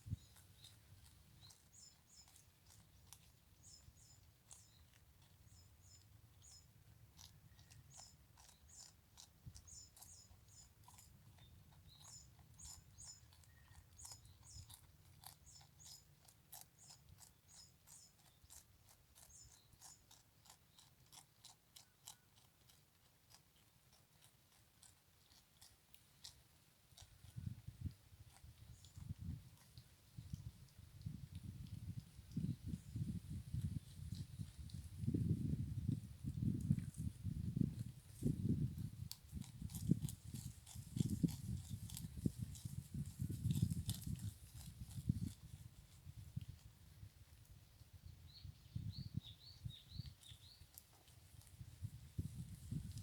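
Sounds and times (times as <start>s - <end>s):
goat chewing grass: 0.0s - 47.6s, 49.7s - 53.0s.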